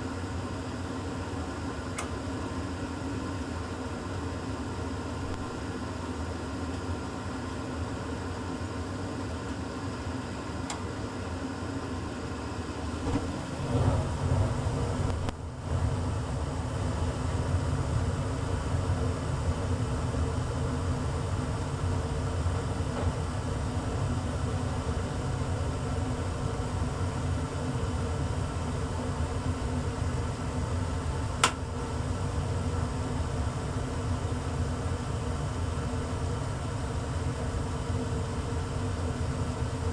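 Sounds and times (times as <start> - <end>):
furnace mechanical hum: 0.0 - 39.9.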